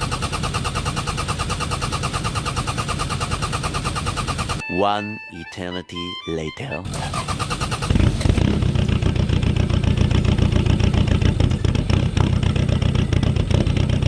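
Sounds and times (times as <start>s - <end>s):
diesel engine clattering: 0.0s - 4.7s, 6.9s - 14.0s.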